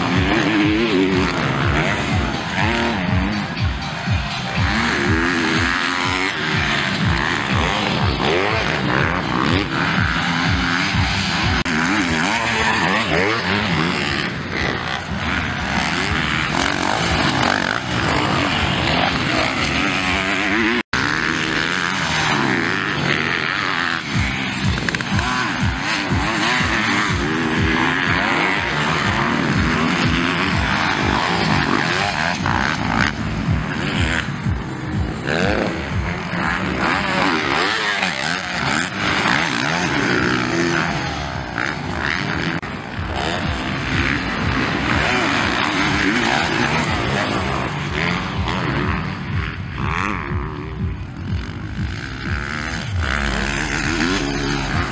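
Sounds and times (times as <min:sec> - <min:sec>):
motocross motorcycles revving: 0:00.0 - 0:54.9.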